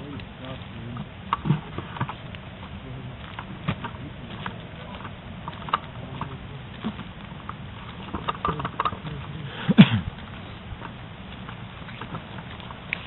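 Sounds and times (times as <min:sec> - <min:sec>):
footsteps on dirt track: 0:00.0 - 0:13.0
gear rattling with clicks: 0:00.0 - 0:13.0.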